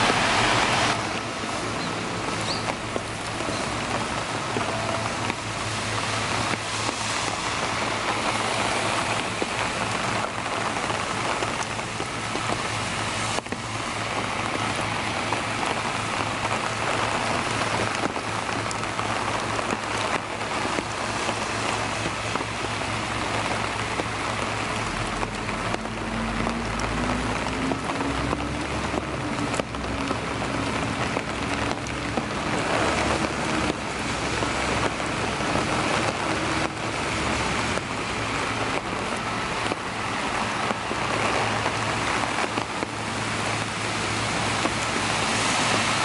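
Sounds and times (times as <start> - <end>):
car on wet street: 0.0 - 46.0
rain falling on pavement: 0.0 - 46.0.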